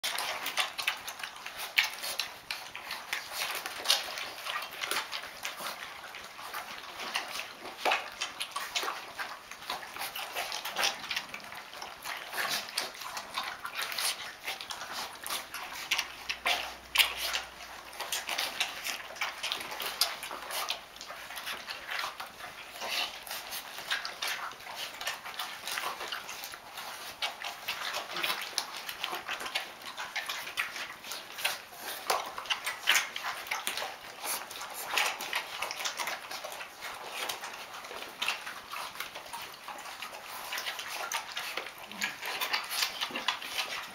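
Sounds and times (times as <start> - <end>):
puppies eating from bowl: 0.0 - 43.9.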